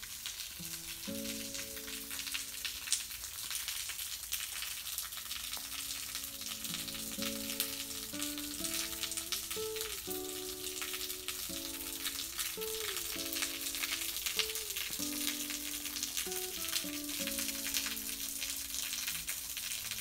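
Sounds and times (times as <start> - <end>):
crackling hiss: 0.0 - 20.0
slow soft background music: 0.6 - 3.0, 5.5 - 20.0.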